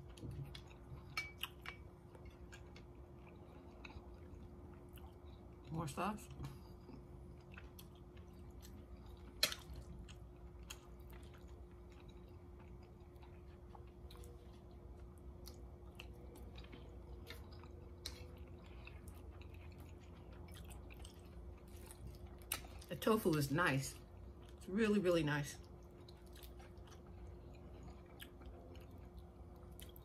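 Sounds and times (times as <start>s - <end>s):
person chewing food: 0.0s - 22.9s, 24.0s - 24.7s, 25.6s - 30.0s
faint steady hum: 0.0s - 30.0s.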